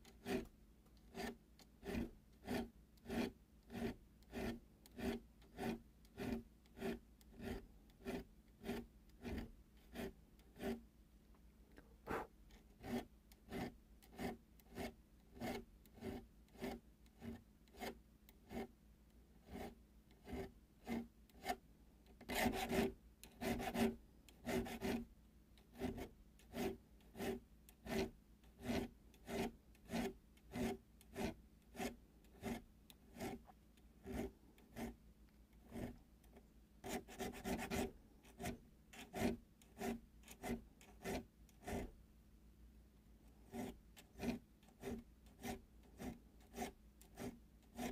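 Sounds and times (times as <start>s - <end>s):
file rasping on metal: 0.0s - 10.8s, 12.1s - 18.7s, 19.4s - 21.6s, 22.2s - 25.1s, 25.7s - 35.0s, 35.6s - 42.0s, 43.4s - 47.9s.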